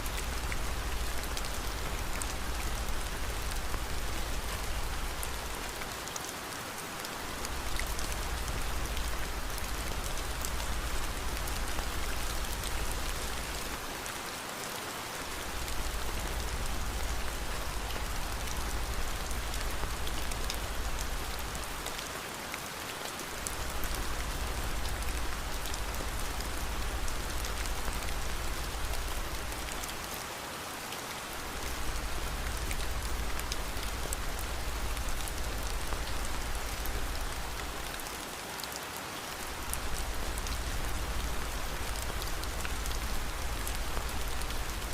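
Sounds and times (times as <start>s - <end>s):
rain patter: 0.0s - 44.9s.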